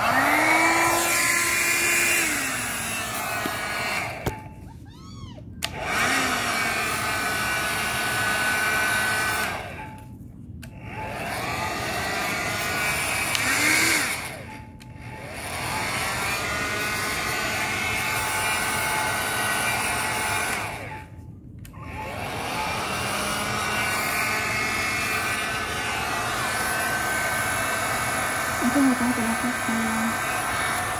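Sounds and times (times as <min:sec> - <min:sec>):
hair dryer blowing: 0:00.0 - 0:04.4, 0:05.6 - 0:09.8, 0:10.8 - 0:14.5, 0:15.2 - 0:21.0, 0:21.8 - 0:30.9.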